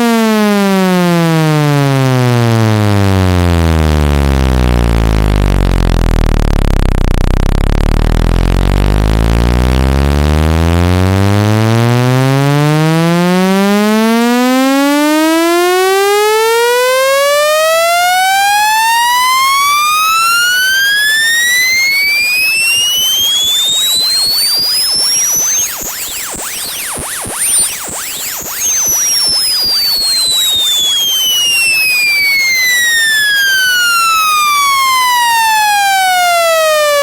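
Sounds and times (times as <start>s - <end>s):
buzzy tone sweeping upward: 1.5s - 37.0s.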